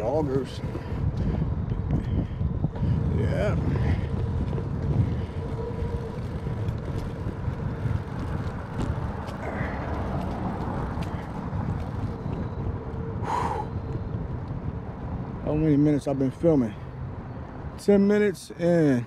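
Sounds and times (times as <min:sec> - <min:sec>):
tyres on pavement: 0:00.0 - 0:19.0
wind rumble on microphone: 0:00.0 - 0:19.0.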